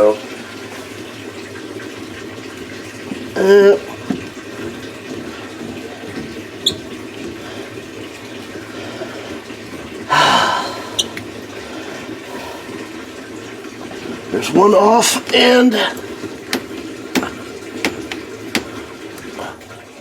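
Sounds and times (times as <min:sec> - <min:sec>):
water filling washing machine: 0:00.0 - 0:20.0.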